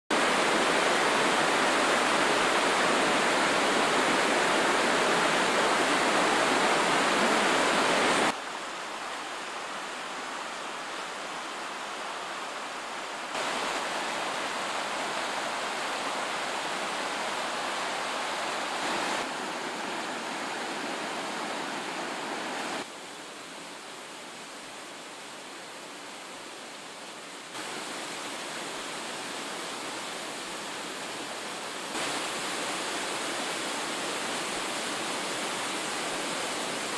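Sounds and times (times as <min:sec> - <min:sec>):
rushing stream and waterfalls: 0:00.1 - 0:36.9.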